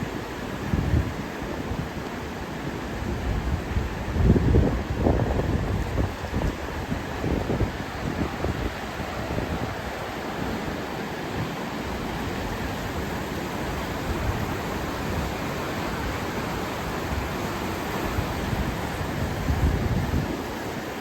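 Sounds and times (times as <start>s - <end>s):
floodwater rushing: 0.0s - 21.0s
wind buffeting microphone: 0.0s - 21.0s.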